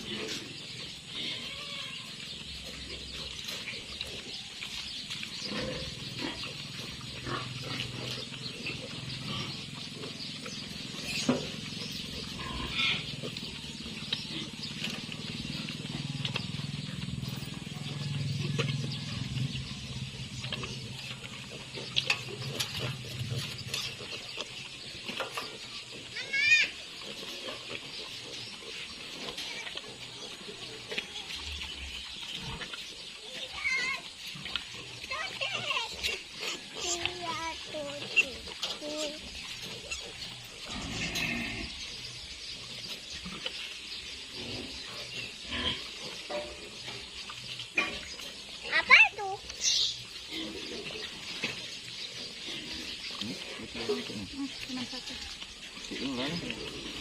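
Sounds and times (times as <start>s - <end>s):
pigs crying: 0.0s - 42.0s, 42.8s - 57.0s
pigs grunting: 0.0s - 57.0s.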